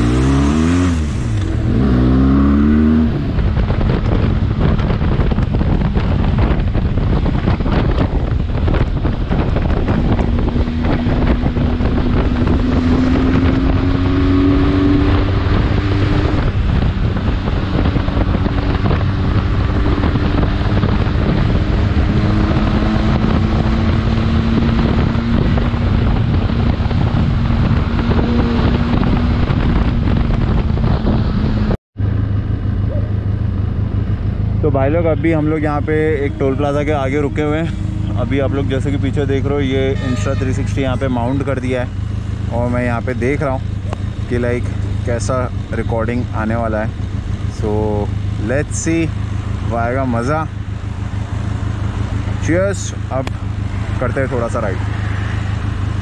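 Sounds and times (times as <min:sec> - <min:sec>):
motorcycle engine cruising: 0:00.0 - 0:56.0
wind buffeting microphone: 0:00.0 - 0:56.0.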